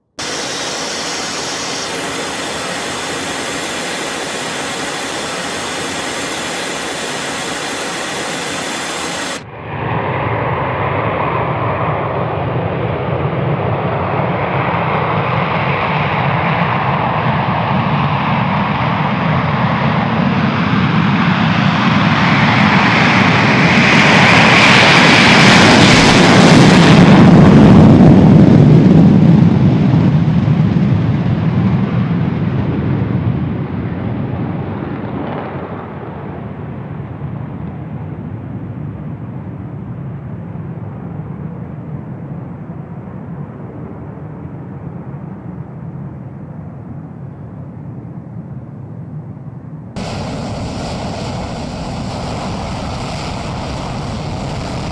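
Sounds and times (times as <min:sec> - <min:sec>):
jet engines passing by: 0:00.0 - 0:46.9, 0:50.0 - 0:54.9.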